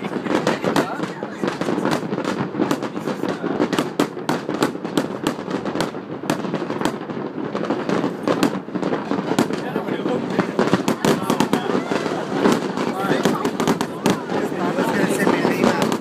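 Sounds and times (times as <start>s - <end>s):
fireworks bangs and cracks: 0.0s - 16.0s
rumble of fireworks bursts: 0.0s - 16.0s.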